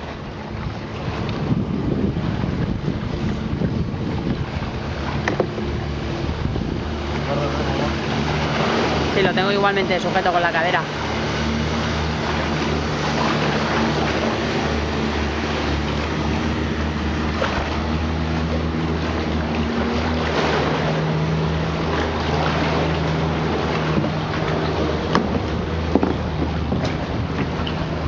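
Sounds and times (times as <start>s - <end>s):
low drone: 0.0s - 28.0s
rushing sea water: 0.0s - 28.0s
wind: 0.0s - 28.0s.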